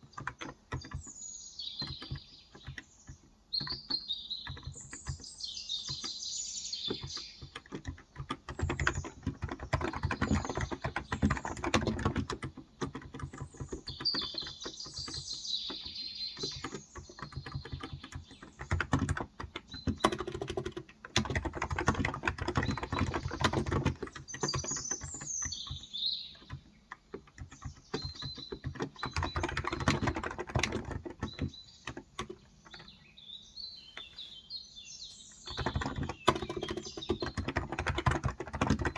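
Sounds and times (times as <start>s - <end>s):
keyboard typing: 0.0s - 6.2s, 6.8s - 33.0s, 35.4s - 38.9s
birds chirping: 0.0s - 38.9s.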